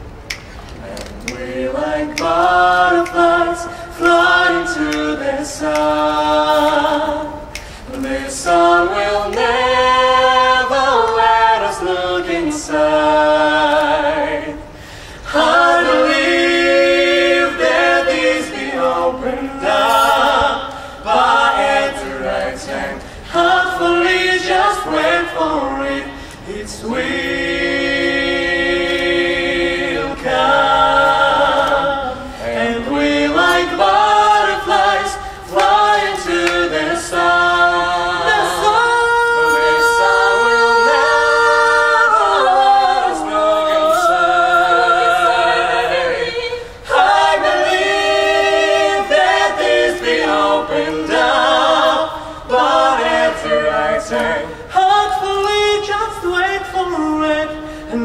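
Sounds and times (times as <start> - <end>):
group singing a cappella: 0.0 - 58.0.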